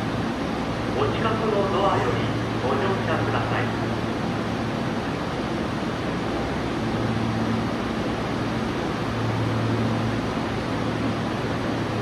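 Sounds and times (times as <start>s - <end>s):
subway station hum and rush: 0.0s - 12.0s.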